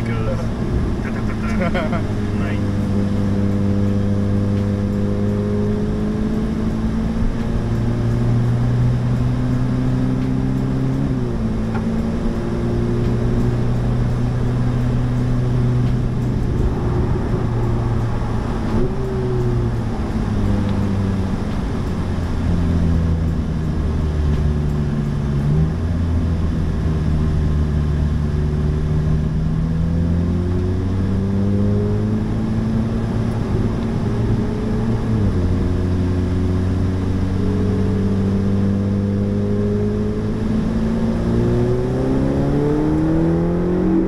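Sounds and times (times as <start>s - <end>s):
race car engine running hard: 0.0s - 44.0s.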